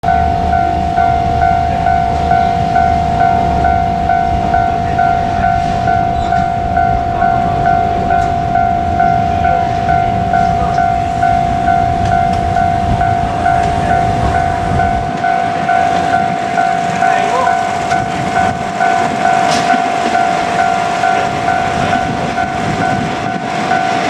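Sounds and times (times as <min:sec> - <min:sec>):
low rumble: 0:00.0 - 0:23.9
level crossing warning bell: 0:00.0 - 0:24.0.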